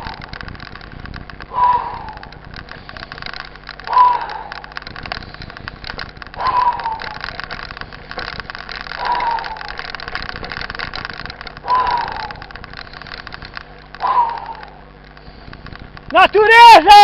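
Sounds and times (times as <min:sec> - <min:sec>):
bike rattling on rough trail: 0:00.0 - 0:17.0.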